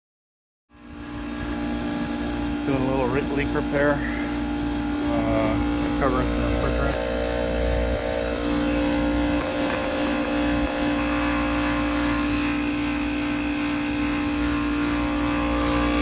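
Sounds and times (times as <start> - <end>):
refrigerant recovery machine humming: 0.7 - 16.0.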